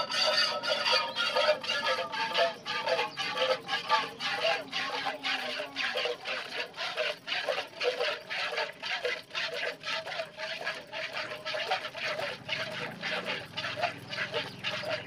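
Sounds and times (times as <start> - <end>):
milk squirting into a steel bucket: 2.7 - 15.0.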